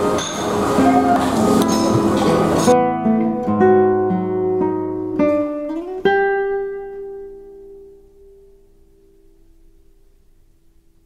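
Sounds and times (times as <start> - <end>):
acoustic guitar picking notes: 0.0 - 11.0.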